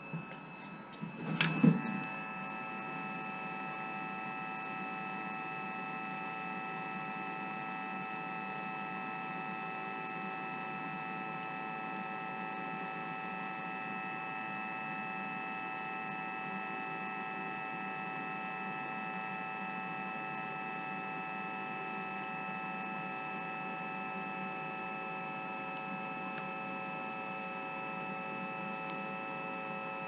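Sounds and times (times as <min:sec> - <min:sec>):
high electrical whine: 0:00.0 - 0:30.0.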